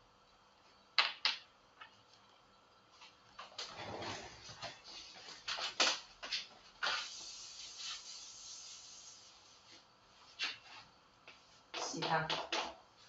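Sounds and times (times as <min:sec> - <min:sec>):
rustling and shuffling: 0:01.8 - 0:13.0.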